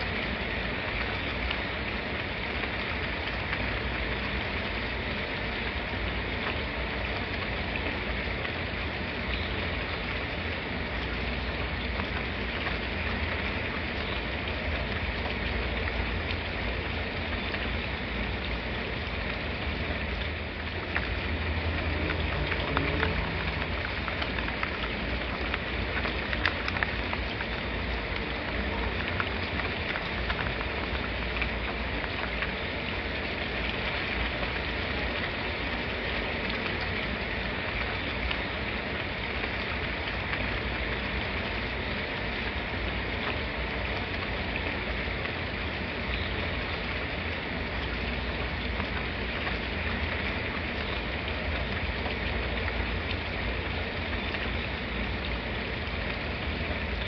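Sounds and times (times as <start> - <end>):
individual raindrops ticking: 0.0 - 57.0
steady rain falling: 0.0 - 57.0.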